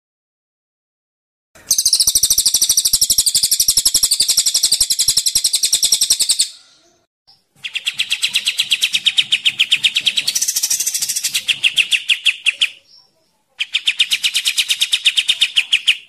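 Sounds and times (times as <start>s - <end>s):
songbird chattering trill: 1.7s - 6.8s, 7.6s - 16.0s.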